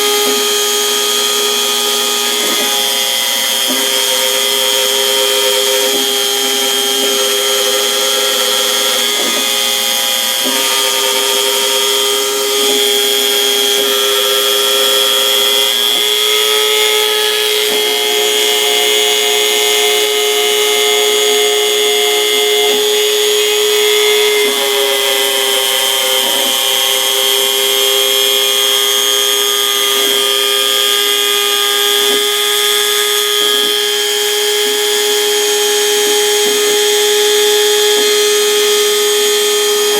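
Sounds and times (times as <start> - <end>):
motors humming: 0.0 - 39.9
router spindle whine: 0.0 - 39.9.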